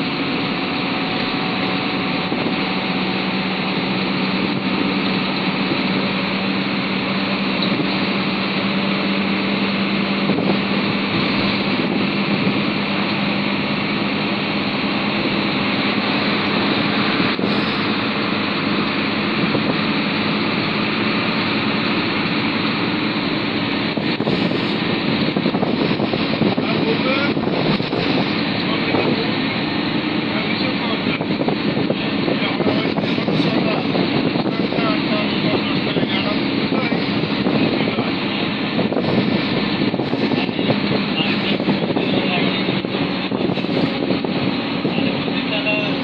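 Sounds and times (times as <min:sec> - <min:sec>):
bus engine and road noise: 0:00.0 - 0:46.0
low hum: 0:00.0 - 0:46.0.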